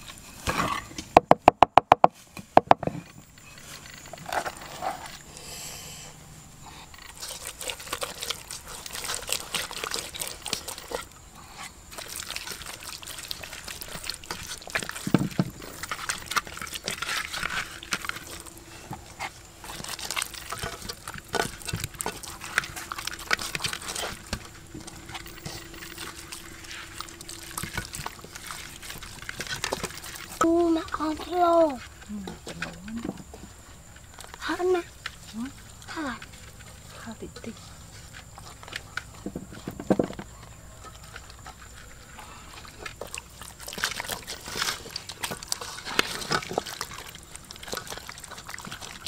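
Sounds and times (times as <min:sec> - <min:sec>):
hands kneading wet paste: 0:06.8 - 0:49.0.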